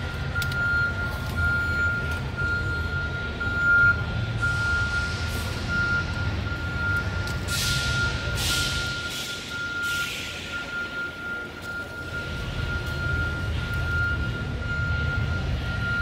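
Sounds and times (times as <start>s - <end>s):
low engine rumble: 0.0s - 16.0s
reversing alarm beeping: 0.0s - 16.0s.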